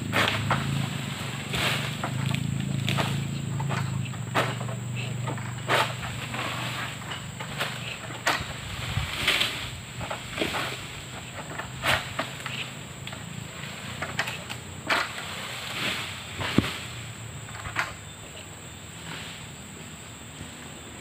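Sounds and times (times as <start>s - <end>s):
sickle crunching palm frond: 0.0s - 17.2s
high insect buzz: 0.0s - 21.0s.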